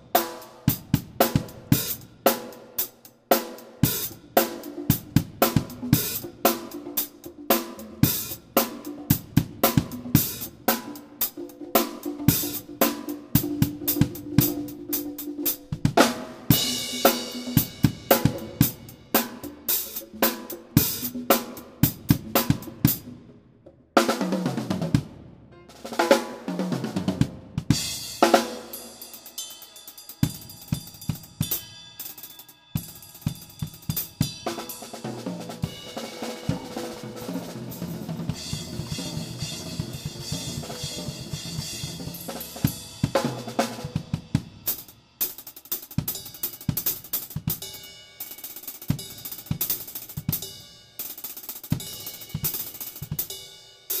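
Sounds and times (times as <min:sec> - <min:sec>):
drum kit solo: 0:00.0 - 0:23.4, 0:24.0 - 0:54.0.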